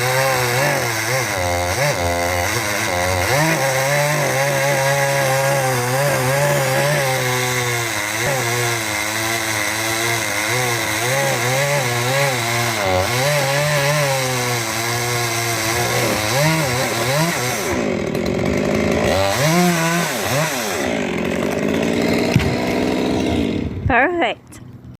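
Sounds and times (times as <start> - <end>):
chainsaw cutting wood: 0.0 - 23.9
chainsaw revving: 0.0 - 23.9.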